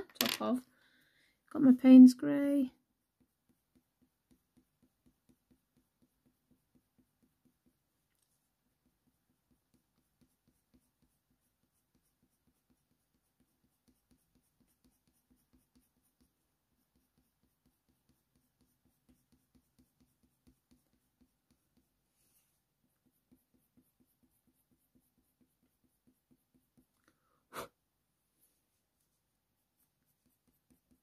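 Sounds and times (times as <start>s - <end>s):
pencil scratching on paper: 1.9s - 27.0s, 28.3s - 31.0s.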